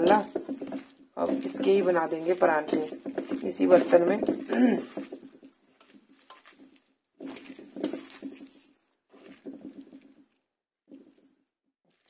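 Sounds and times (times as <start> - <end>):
hand squishing mashed potato: 0.1 - 12.0.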